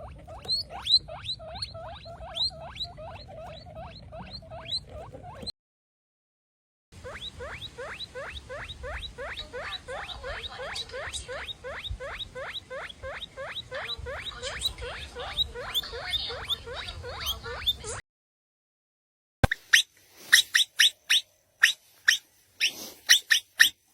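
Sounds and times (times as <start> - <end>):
mouse squeaking: 0.0 - 5.5, 7.0 - 18.0, 19.4 - 23.8.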